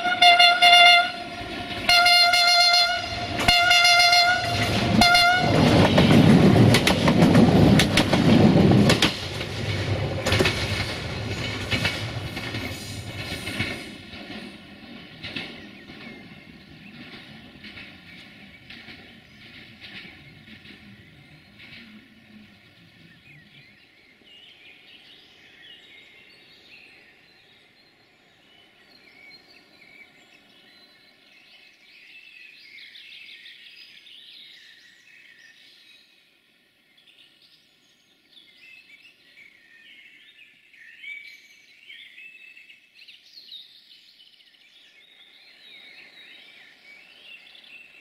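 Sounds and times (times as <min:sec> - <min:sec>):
songbirds chirping and trilling: 0:08.6 - 0:48.0.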